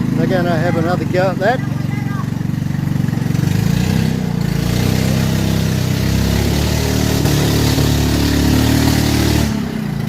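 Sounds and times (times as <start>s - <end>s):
boat motor running hard: 0.0s - 10.0s.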